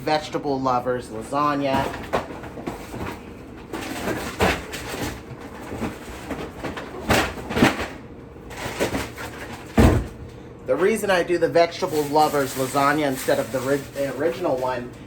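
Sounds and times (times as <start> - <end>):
grocery packages rustling: 0.0 - 15.0.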